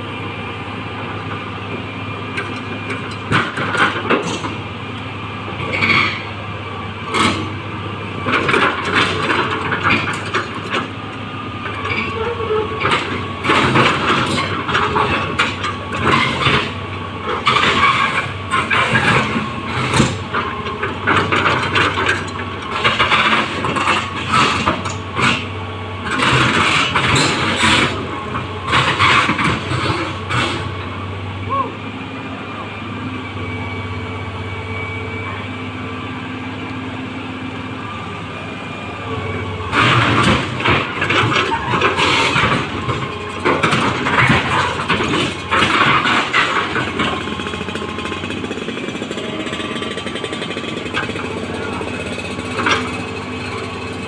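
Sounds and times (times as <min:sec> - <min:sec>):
excavator engine surging: 0:00.0 - 0:54.0.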